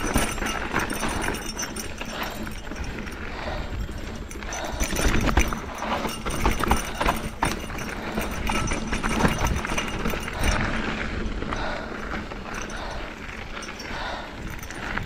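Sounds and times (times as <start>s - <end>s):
bike knocks and rattles: 0.0s - 15.0s
bike tyres crunching on dirt: 0.0s - 15.0s.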